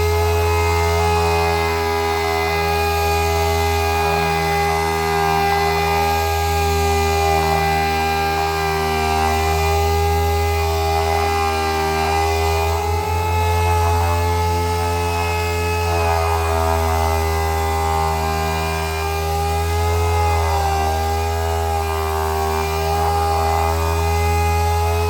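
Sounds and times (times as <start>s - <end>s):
power sander running: 0.0s - 25.0s.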